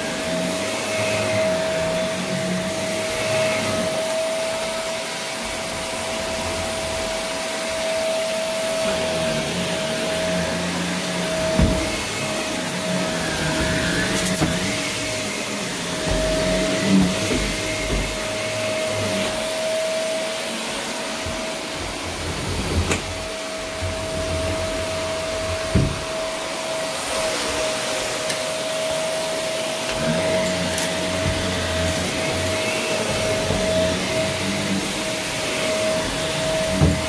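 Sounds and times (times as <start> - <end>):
vacuum cleaner running on carpet: 0.0 - 37.0.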